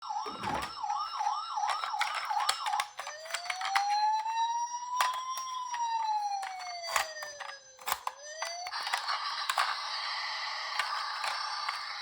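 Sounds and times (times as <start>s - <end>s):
toy electronic siren: 0.0s - 12.0s.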